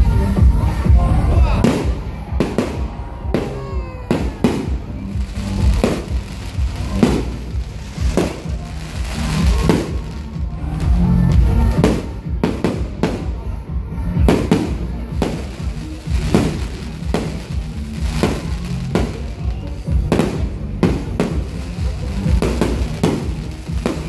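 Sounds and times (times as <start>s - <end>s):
music playing: 0.0s - 24.0s.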